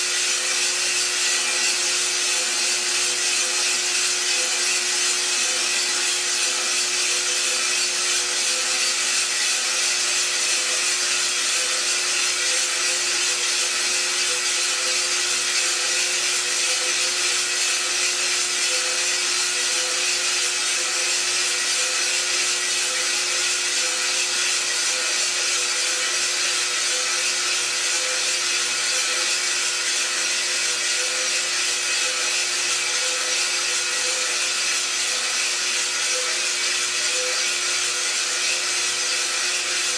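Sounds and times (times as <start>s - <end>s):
coffee beans tumbling in drum: 0.0s - 39.9s
roaster motor humming: 0.0s - 39.9s.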